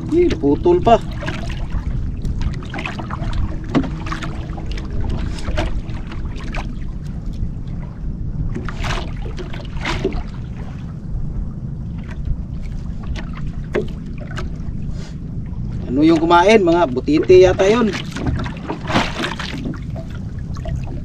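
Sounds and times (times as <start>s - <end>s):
water lapping at hull: 0.0s - 21.0s
wind rumbling on microphone: 0.0s - 21.0s.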